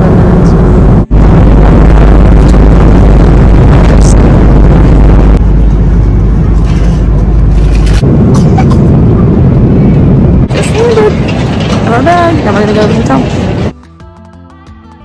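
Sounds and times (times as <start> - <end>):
airliner cabin engine rumble: 0.0 - 13.7.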